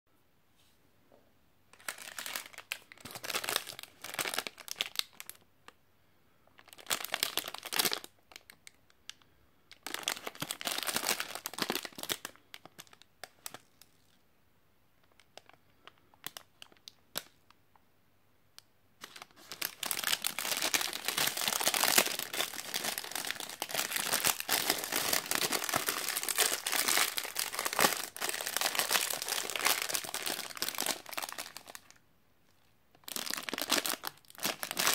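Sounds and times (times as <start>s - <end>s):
plastic wrapper crinkling: 1.8s - 5.4s, 6.6s - 14.2s, 15.0s - 17.5s, 19.0s - 32.0s, 32.9s - 34.9s.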